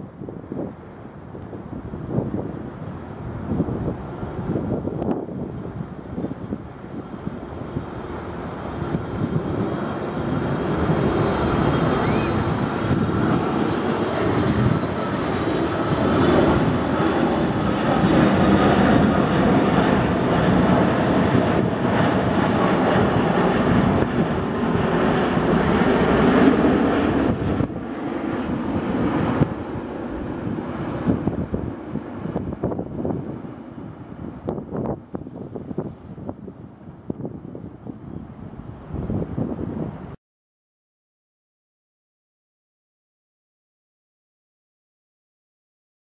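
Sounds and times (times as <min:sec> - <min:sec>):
jet engines rushing overhead: 0:00.0 - 0:40.2
wind on microphone: 0:00.0 - 0:40.2.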